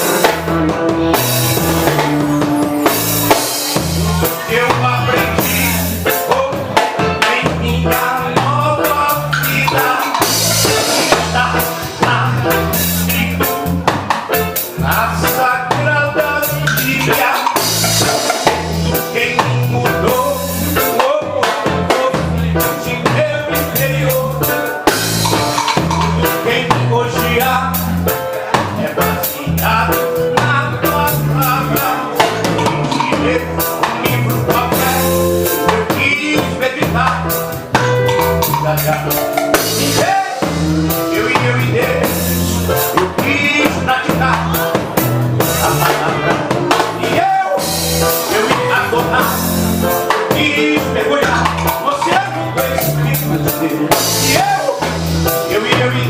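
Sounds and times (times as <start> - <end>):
repeating bass line: 0.0 - 14.0, 14.7 - 20.9, 21.7 - 56.0
drum kit groove: 0.0 - 56.0
reggae band playing: 0.0 - 56.0.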